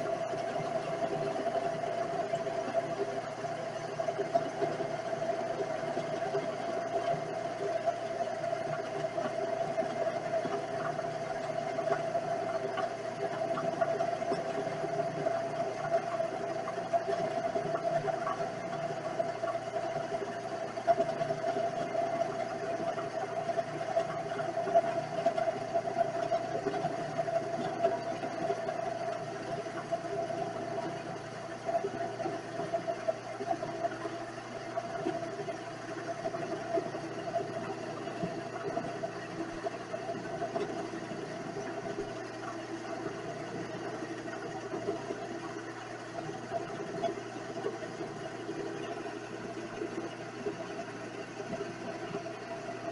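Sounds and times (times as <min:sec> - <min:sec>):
faint ticks: 0:00.0 - 0:52.9.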